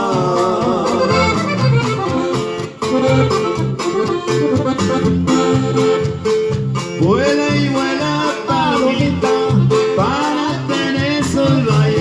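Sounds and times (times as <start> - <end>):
accordion melody: 0.0 - 12.0
bass: 0.0 - 12.0
drum kit beat: 0.0 - 12.0
guitar: 0.0 - 12.0.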